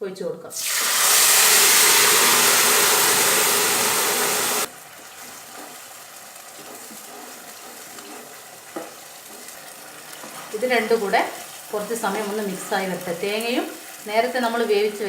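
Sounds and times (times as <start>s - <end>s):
quiet steady sizzle: 0.4s - 15.0s
gravy hissing in hot oil: 0.6s - 15.0s.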